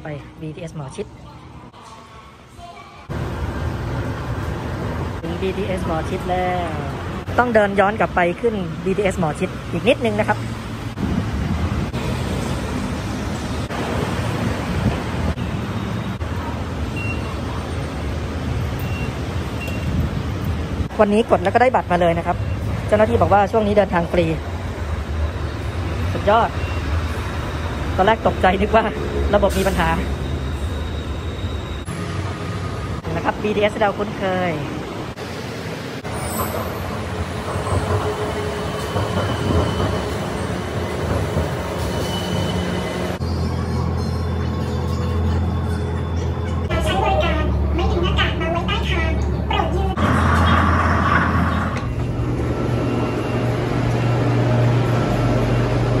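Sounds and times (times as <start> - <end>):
street traffic: 0.0 - 56.0
train rumbling on rails: 1.1 - 56.0.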